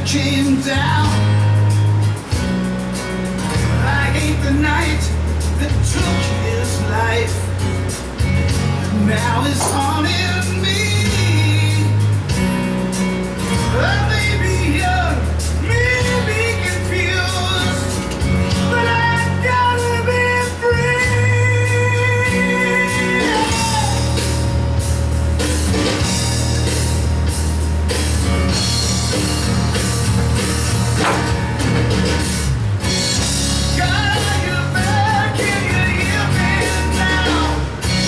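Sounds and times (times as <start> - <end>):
rock music: 0.0 - 38.0.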